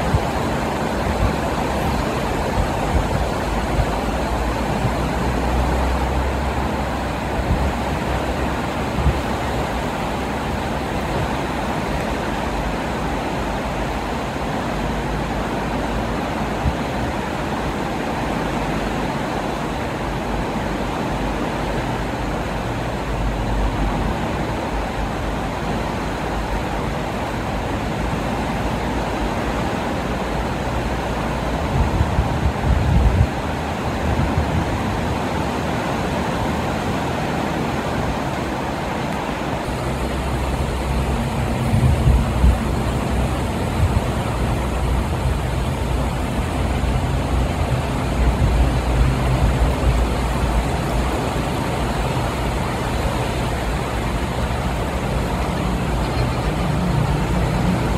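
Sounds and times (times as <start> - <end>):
river floodwater rushing: 0.0 - 57.9.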